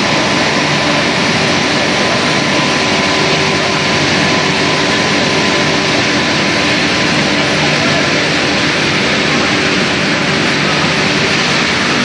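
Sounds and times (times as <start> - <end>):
loud factory machinery drone: 0.0 - 12.0
thin steady whine: 0.0 - 12.0.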